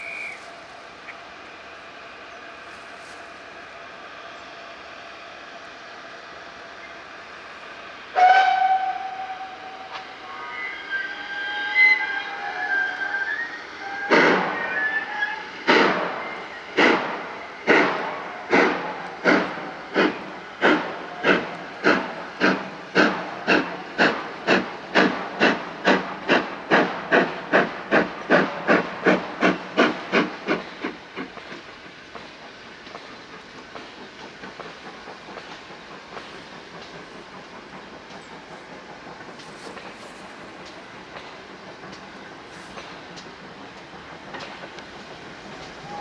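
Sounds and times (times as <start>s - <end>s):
steam hiss: 0.0s - 46.0s
steam locomotive exhaust beats: 0.0s - 46.0s
train running: 0.0s - 46.0s.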